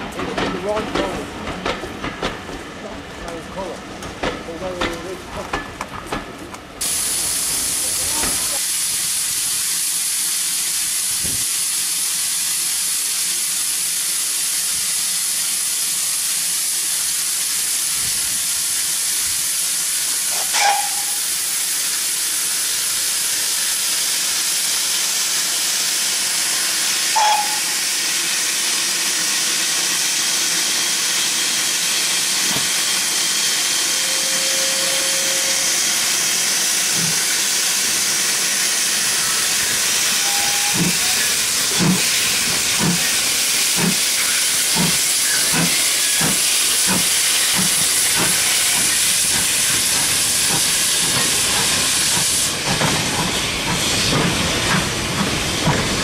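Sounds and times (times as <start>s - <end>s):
steam hissing from locomotive: 6.8s - 56.0s.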